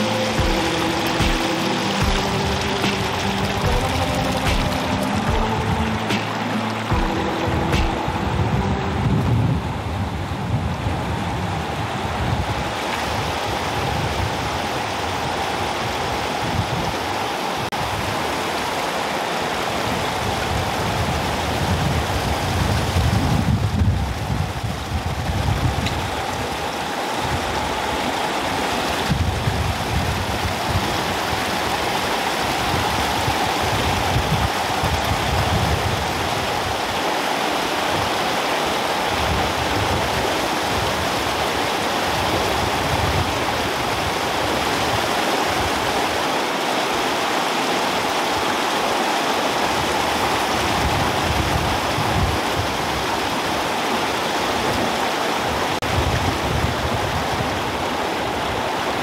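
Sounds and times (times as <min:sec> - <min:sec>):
fast-flowing water hiss: 0:00.0 - 0:08.3, 0:12.1 - 0:59.0.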